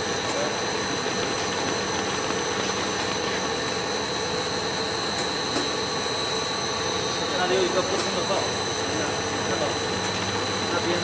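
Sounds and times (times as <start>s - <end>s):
high-pitched machine whine: 0.0s - 11.0s.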